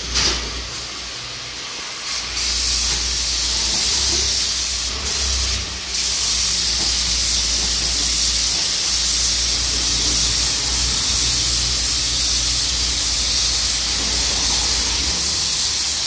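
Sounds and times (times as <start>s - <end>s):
spray gun hissing: 0.0s - 16.0s.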